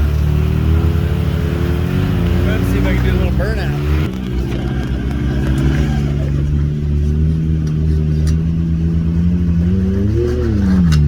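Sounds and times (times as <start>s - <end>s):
turbocharged engine revving: 0.0s - 11.0s.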